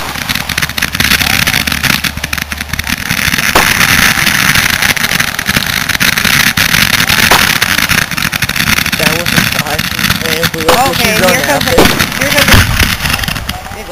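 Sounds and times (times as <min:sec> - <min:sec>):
firework bang: 0:00.0 - 0:13.9
fireworks crackling pops: 0:00.0 - 0:13.9.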